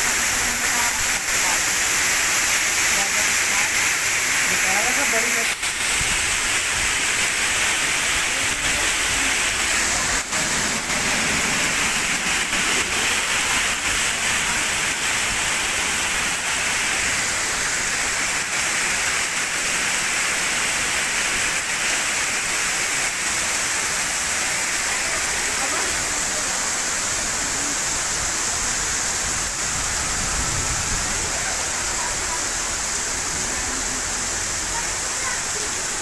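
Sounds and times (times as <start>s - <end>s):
heavy rain on asphalt: 0.0s - 36.0s.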